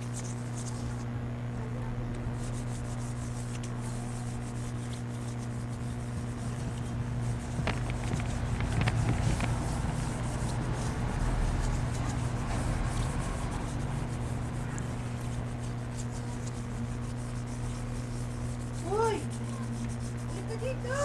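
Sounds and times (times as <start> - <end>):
steady low hum: 0.0 - 21.0
hand scrubbing metal surface: 2.4 - 21.0.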